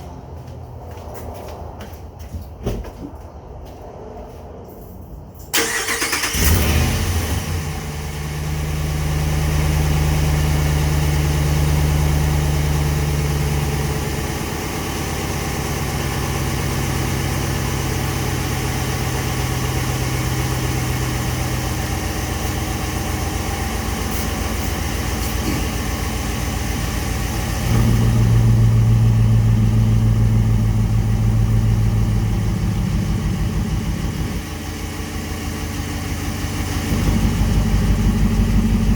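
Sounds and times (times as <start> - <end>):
pickup engine cranking and idling: 5.5 - 38.9.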